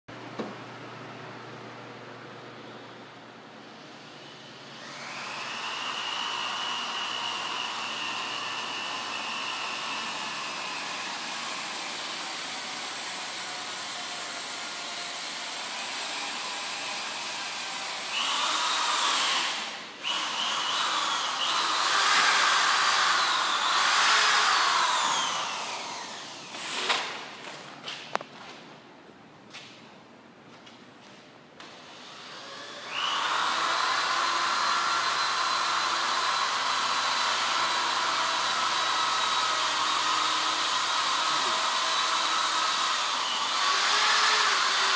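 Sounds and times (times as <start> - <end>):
electric power tool running: 4.0 - 27.1, 31.7 - 44.9.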